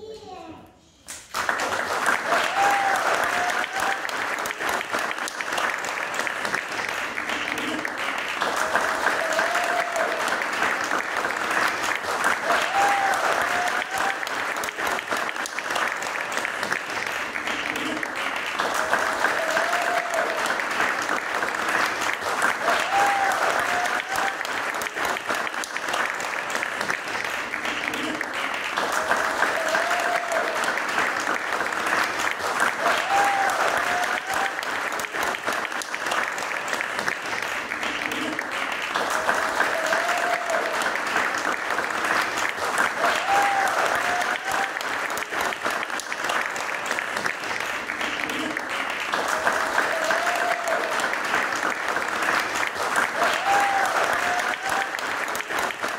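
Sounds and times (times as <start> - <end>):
group of people clapping: 0.0 - 55.9
long drawn-out cheer: 1.3 - 55.9.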